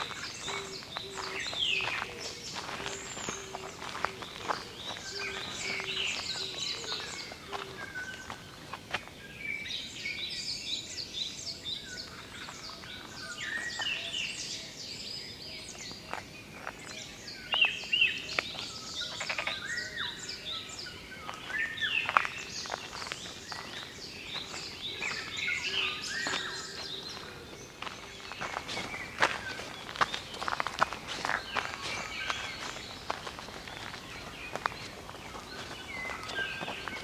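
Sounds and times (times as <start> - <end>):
wild birds singing and chirping: 0.0 - 37.0.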